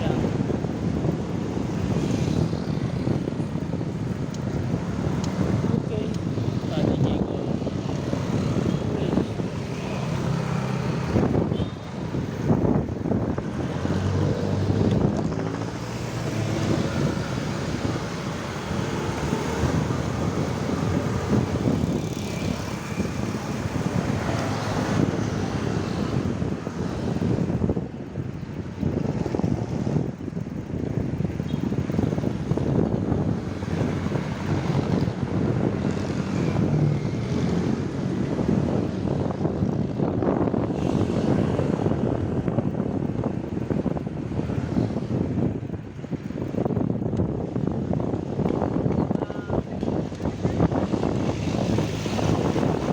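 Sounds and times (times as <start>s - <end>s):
traffic vehicle engines: 0.0s - 52.9s
wind buffeting microphone: 0.0s - 52.9s.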